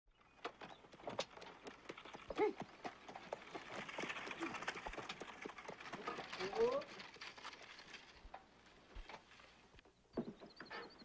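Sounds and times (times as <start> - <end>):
horse hooves clip-clopping: 0.2 - 9.5.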